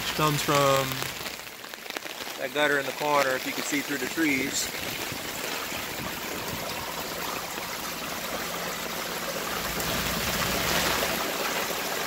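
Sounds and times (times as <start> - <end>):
water pouring into plastic basin: 0.0 - 12.0.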